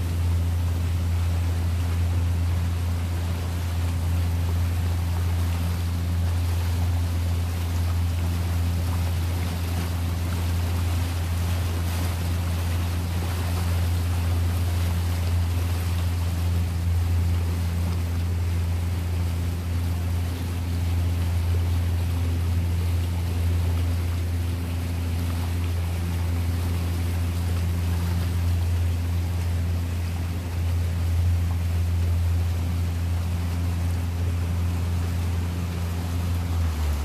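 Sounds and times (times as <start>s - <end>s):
boat motor humming: 0.0s - 37.0s
water noise: 0.0s - 37.0s.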